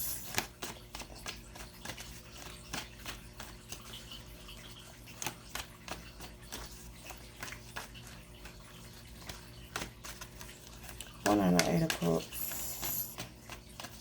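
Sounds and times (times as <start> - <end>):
cards clicking and tapping: 0.0 - 14.0.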